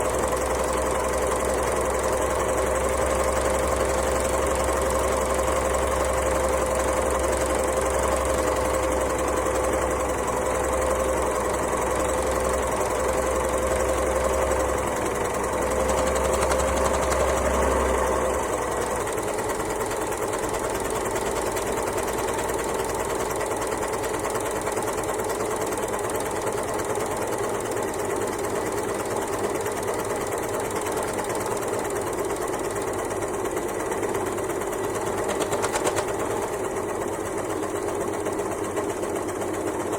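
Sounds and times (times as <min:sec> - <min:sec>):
overlocker sewing machine running: 0:00.0 - 0:39.9.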